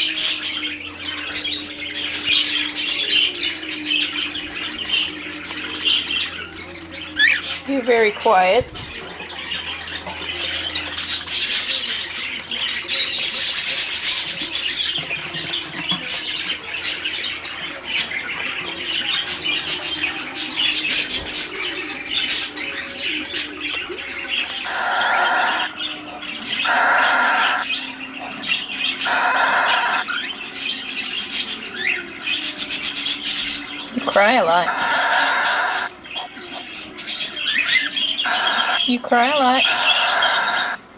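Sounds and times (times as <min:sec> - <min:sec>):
birds chirping and chattering: 0:00.0 - 0:40.9
harsh bird calls: 0:00.0 - 0:40.9.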